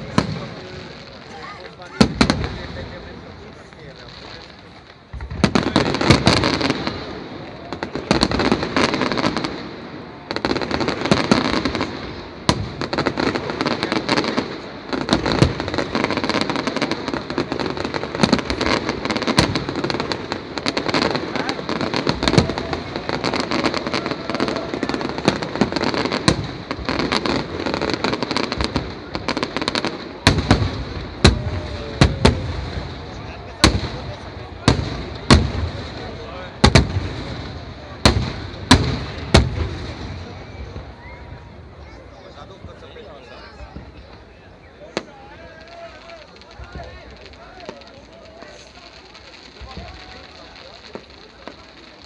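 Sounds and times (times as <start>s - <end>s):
fireworks crackling and banging: 0.0s - 52.0s.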